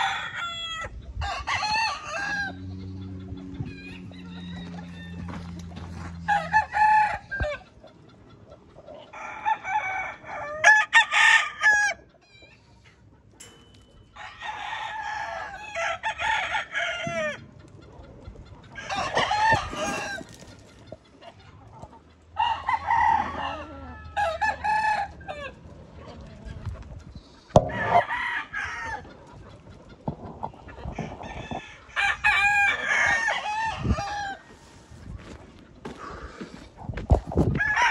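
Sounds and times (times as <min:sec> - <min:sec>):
roosters crowing: 0:00.0 - 0:07.9, 0:08.8 - 0:12.7, 0:13.4 - 0:17.6, 0:18.5 - 0:29.4, 0:30.0 - 0:37.9.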